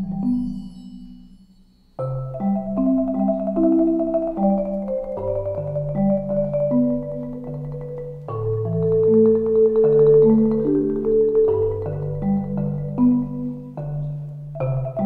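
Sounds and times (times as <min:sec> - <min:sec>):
slow instrumental music: 0:00.0 - 0:15.0.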